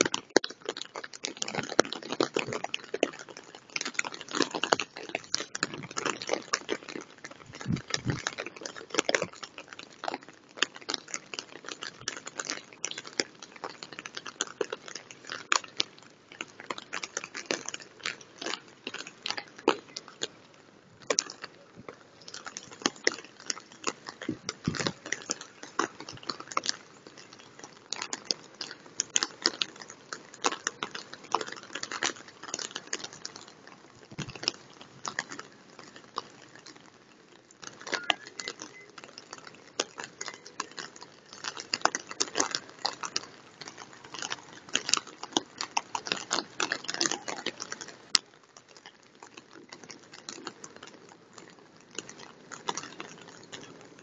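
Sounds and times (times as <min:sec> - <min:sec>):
rain hissing on water: 0:00.0 - 0:54.0
raindrops pattering close by: 0:00.0 - 0:54.0.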